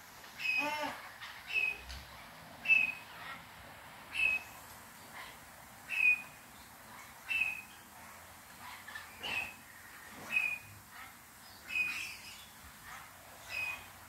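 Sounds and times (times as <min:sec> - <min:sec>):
parrot calling: 0:00.4 - 0:07.8, 0:08.6 - 0:14.0.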